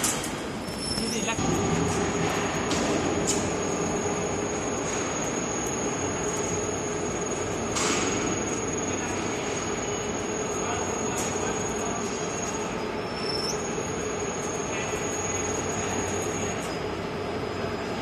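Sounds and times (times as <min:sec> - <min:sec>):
high machine whine: 0:00.0 - 0:18.0
roll forming machine rumble: 0:00.0 - 0:18.0.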